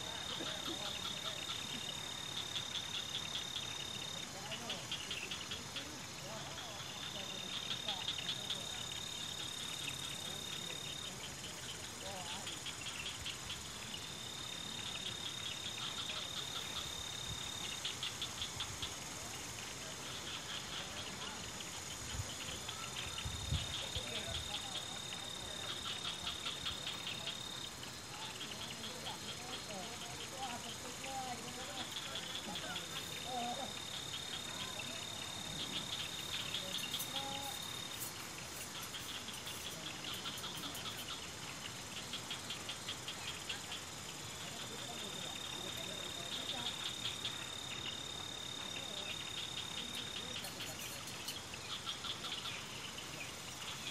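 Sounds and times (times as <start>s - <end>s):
high insect trill: 0.0s - 53.9s
night insects chirping: 0.0s - 53.9s.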